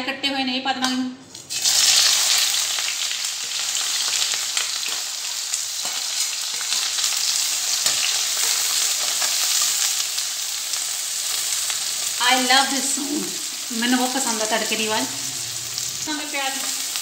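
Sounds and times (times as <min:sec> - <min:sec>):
onions sizzling in hot oil: 0:01.4 - 0:17.0.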